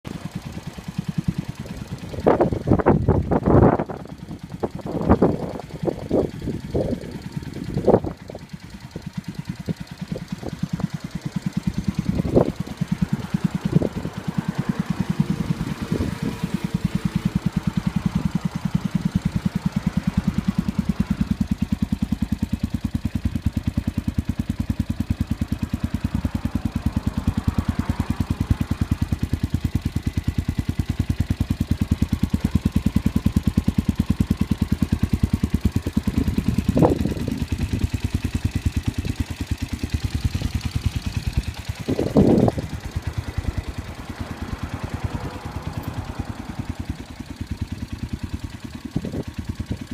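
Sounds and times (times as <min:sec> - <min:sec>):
single-cylinder engine idling: 0:00.1 - 0:49.9.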